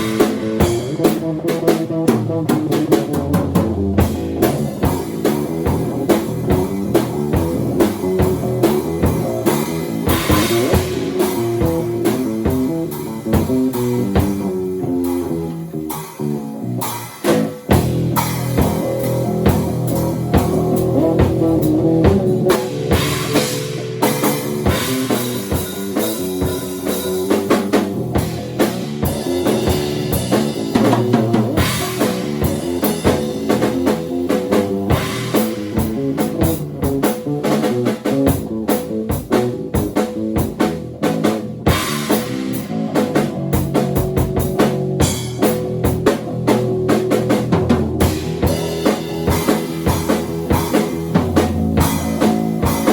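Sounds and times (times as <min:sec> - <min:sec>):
bass guitar line: 0:00.0 - 0:52.9
drum kit: 0:00.0 - 0:52.9.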